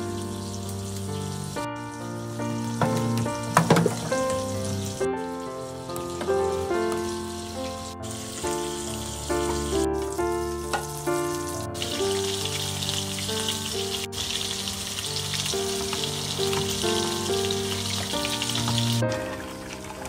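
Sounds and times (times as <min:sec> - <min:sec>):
patties sizzling in oil: 0:00.0 - 0:05.0, 0:05.8 - 0:20.0
light melodic background music: 0:00.0 - 0:20.0.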